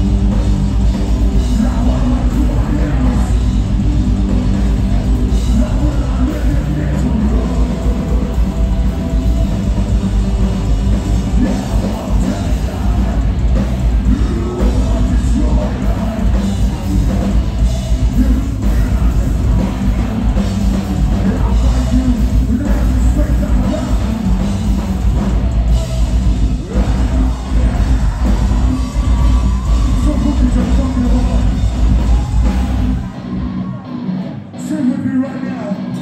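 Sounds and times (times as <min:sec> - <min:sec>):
drum kit: 0:00.0 - 0:33.8
vocals: 0:00.0 - 0:33.8, 0:34.5 - 0:36.0
distorted electric guitars: 0:00.0 - 0:36.0
keyboards: 0:00.0 - 0:36.0.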